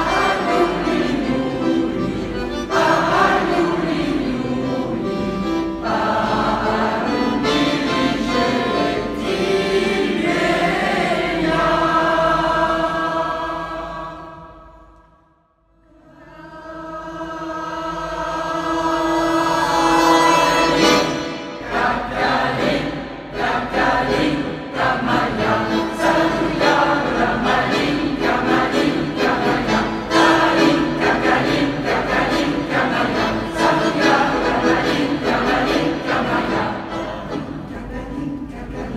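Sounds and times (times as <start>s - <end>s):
mixed choir singing: 0.0s - 15.0s, 15.8s - 38.9s.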